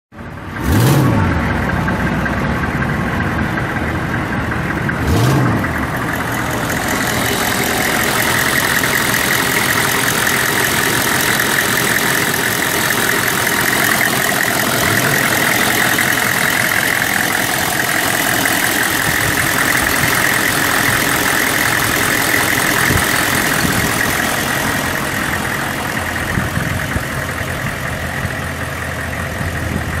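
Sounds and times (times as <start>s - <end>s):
diesel engine revving and idling: 0.2s - 30.0s.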